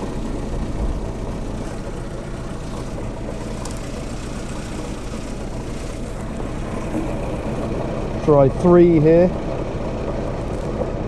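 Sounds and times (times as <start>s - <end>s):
rough car engine idling: 0.0s - 11.0s.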